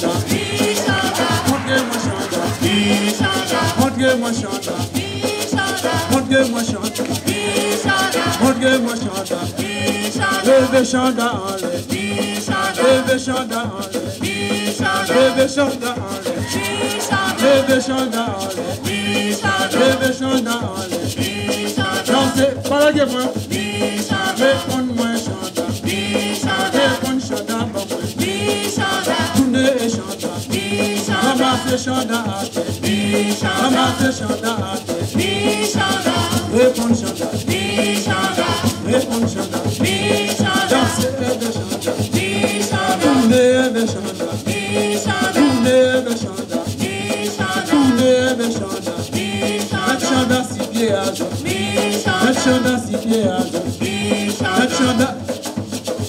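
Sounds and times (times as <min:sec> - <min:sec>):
voices singing a chant: 0:00.0 - 0:55.8
hand drums: 0:00.0 - 0:56.0
shaker: 0:00.0 - 0:56.0.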